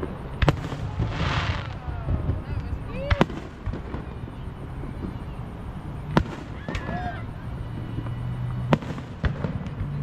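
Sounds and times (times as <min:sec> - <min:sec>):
fireworks bangs: 0:00.0 - 0:10.0
low background rumble: 0:00.0 - 0:10.0.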